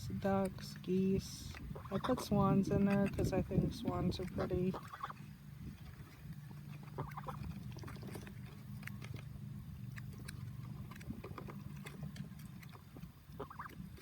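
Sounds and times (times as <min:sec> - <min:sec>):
steady low hum: 0:00.0 - 0:14.0
waterfowl calls: 0:01.5 - 0:14.0.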